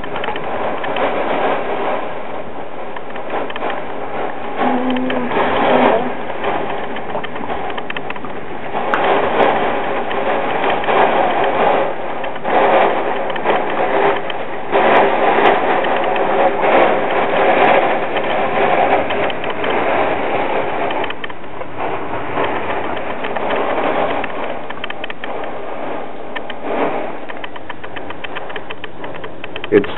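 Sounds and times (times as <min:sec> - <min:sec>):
wind and rain against window: 0:00.0 - 0:29.9.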